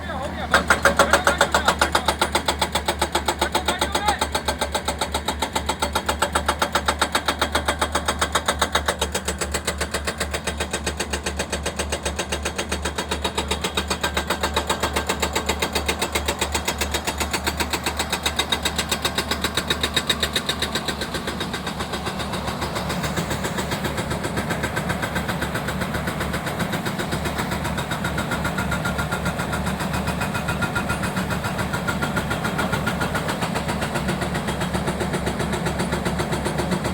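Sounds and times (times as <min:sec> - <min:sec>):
engine running with fast pulse: 0:00.0 - 0:36.9.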